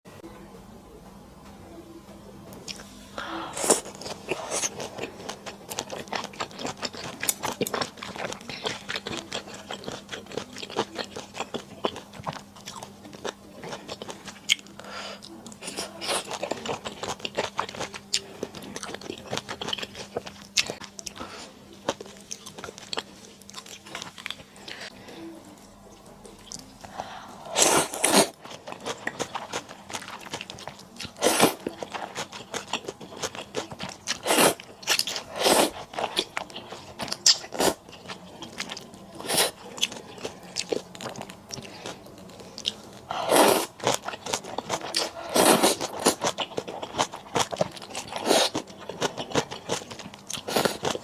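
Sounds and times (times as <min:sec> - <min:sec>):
crunching and slurping: 0:03.5 - 0:25.0, 0:26.3 - 0:51.0
person chewing: 0:03.5 - 0:25.0, 0:25.9 - 0:51.0.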